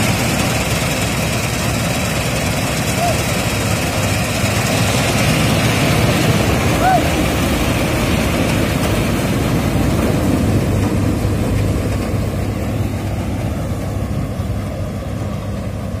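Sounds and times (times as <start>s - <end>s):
combine harvester low hum: 0.0s - 16.0s.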